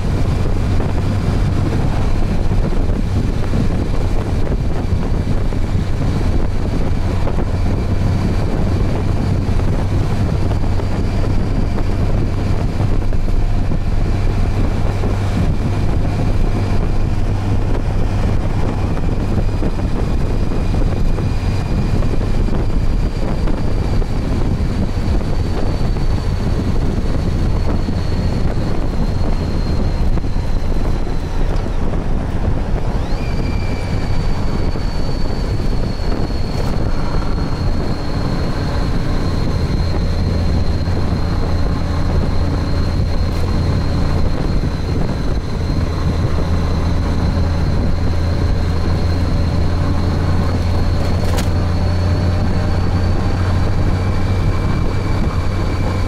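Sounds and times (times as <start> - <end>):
motorcycle engine and road drone: 0.0 - 56.0
wind noise on microphone: 0.0 - 56.0.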